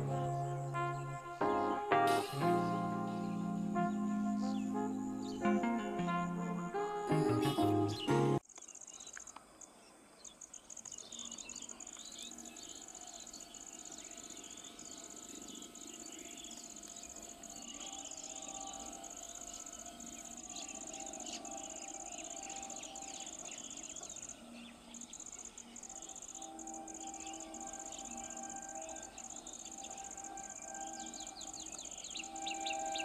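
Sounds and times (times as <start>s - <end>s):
small birds chirping: 0.0s - 6.1s, 7.2s - 33.0s
insects trilling: 0.0s - 6.8s, 8.4s - 33.0s.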